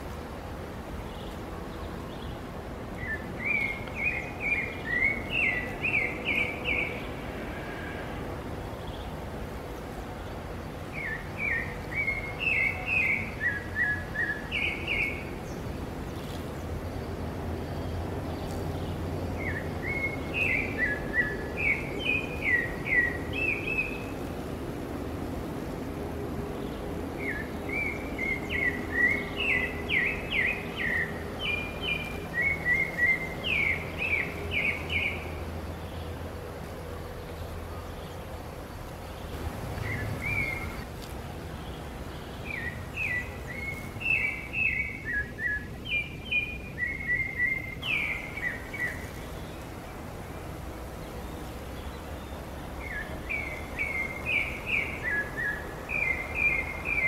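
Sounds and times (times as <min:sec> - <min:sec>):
songbird chirping song: 0:00.0 - 0:57.0.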